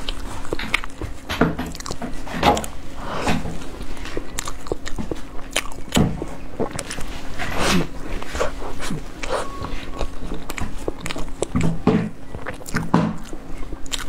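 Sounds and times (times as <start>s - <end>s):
chewing mouth clicks and smacks: 0.0s - 1.1s, 1.7s - 2.8s, 3.8s - 14.0s.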